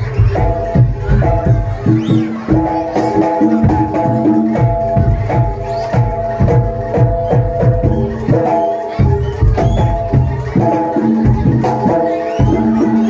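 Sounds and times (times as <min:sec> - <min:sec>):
struck bronze percussion melody: 0:00.0 - 0:13.0.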